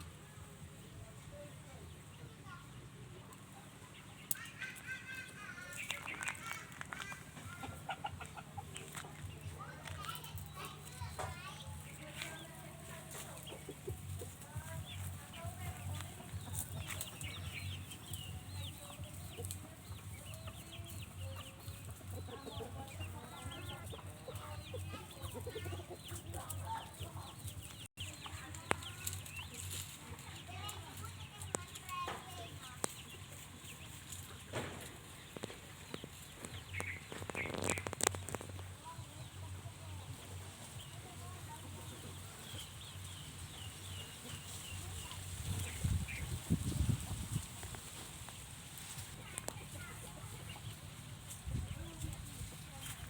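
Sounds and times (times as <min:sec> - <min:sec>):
birds chirping: 0:00.0 - 0:53.0
chickens clucking: 0:00.0 - 0:53.0.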